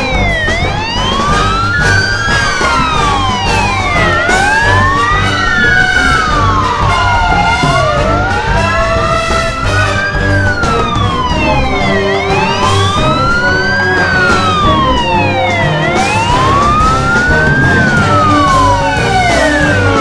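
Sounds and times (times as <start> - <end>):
background music: 0.0 - 20.0
fire engine siren wailing: 0.0 - 20.0.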